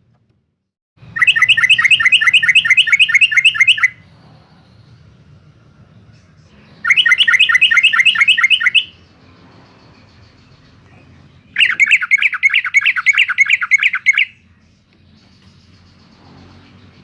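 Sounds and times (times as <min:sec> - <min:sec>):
bird chattering song: 0:01.1 - 0:05.4, 0:06.0 - 0:17.0.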